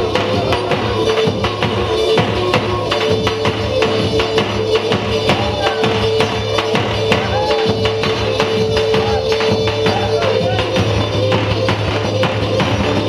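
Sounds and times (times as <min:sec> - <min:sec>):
folk dance music: 0:00.0 - 0:13.0.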